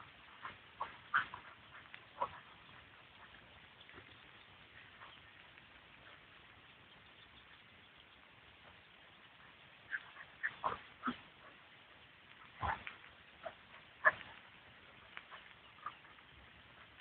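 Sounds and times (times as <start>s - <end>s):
dogs play-fighting: 0.0s - 6.3s, 9.4s - 17.0s.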